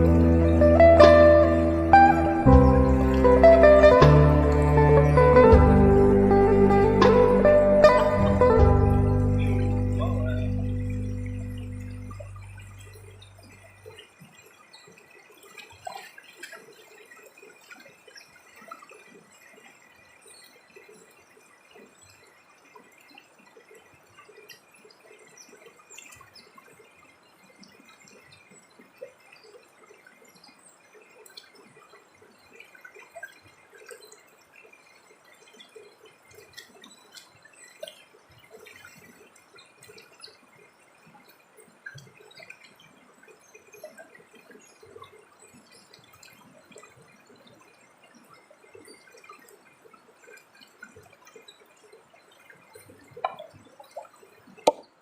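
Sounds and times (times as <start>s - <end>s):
water dripping and trickling: 0.0s - 55.0s.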